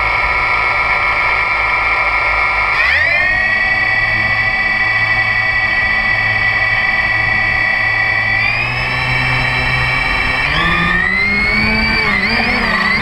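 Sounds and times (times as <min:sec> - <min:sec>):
drone motors whining: 0:00.0 - 0:13.0
low hum: 0:00.0 - 0:13.0.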